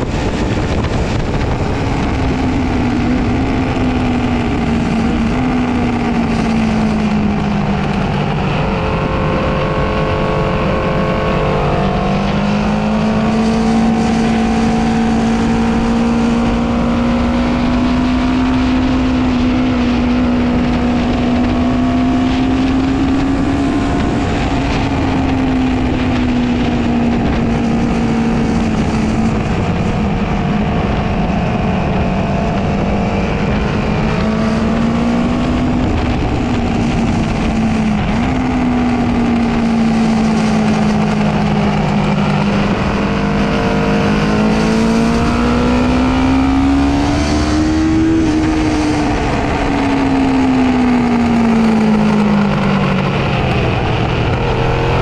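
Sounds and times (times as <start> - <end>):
motorcycle engine running hard: 0.0 - 55.0
wind rushing over microphone: 0.0 - 55.0.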